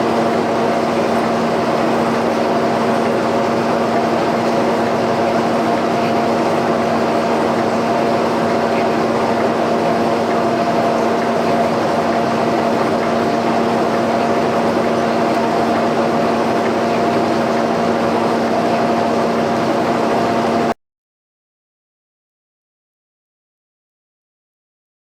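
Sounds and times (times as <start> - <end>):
boring machine running: 0.0 - 20.8.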